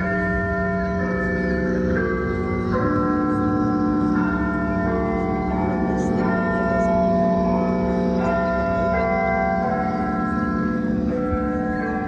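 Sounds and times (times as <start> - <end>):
clock tower bell chimes: 0.0 - 12.0.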